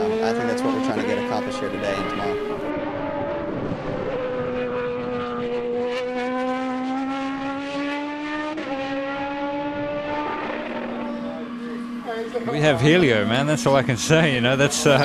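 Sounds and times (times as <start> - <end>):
racing engine at high revs: 0.0 - 15.0.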